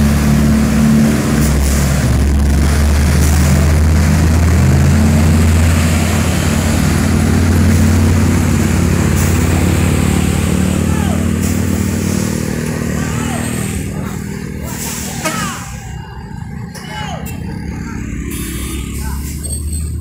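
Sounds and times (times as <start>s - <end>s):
heavy truck engines droning: 0.0s - 20.0s.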